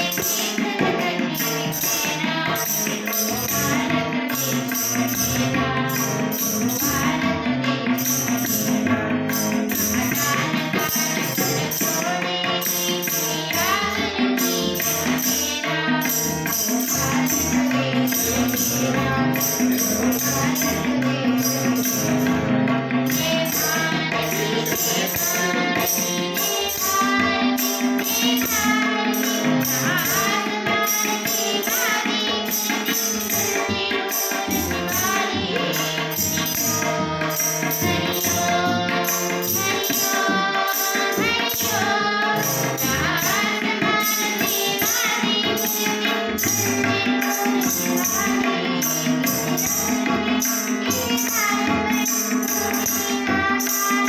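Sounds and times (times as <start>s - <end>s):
person singing devotional song: 0.0s - 54.0s
tambourine jingle: 0.0s - 54.0s.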